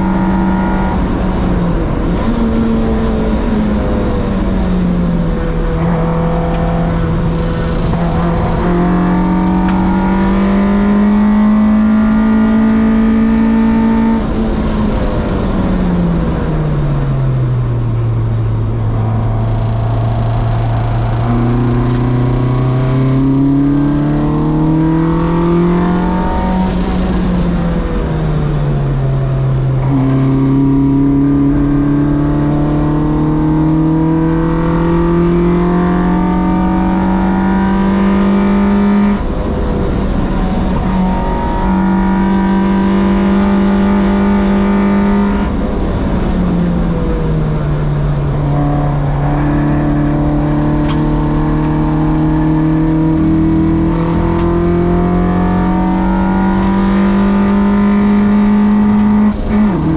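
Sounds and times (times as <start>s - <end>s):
car engine revving hard: 0.0s - 16.5s, 18.5s - 59.9s.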